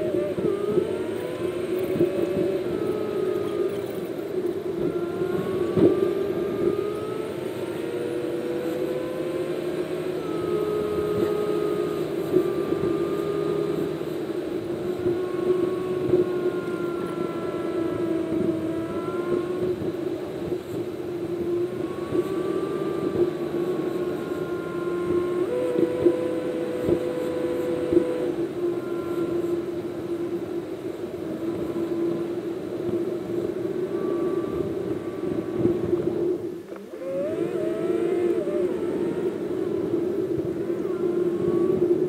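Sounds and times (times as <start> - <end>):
car engine and road drone: 0.0 - 42.0.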